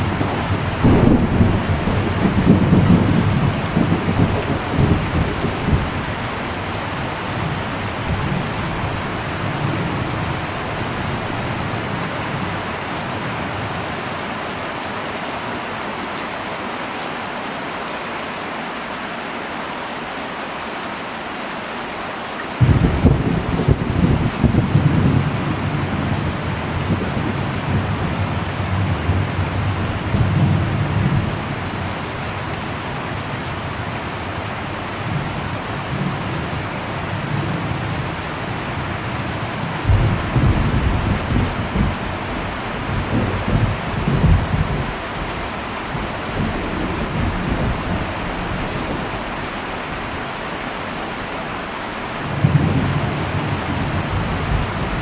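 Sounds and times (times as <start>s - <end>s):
thunder rumbling: 0.0s - 13.8s, 22.6s - 50.2s, 52.2s - 55.0s
heavy rain on a metal roof: 0.0s - 55.0s.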